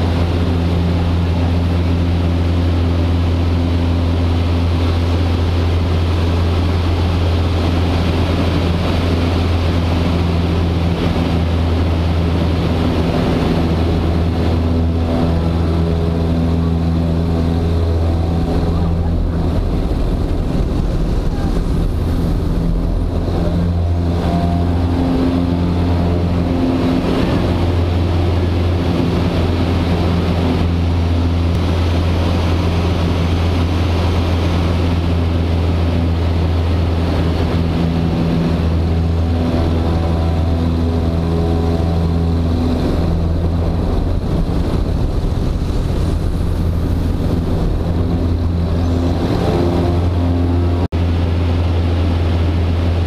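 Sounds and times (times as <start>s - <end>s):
airflow rushing over cabin: 0.0s - 53.0s
airplane engine and propeller droning: 0.0s - 53.0s.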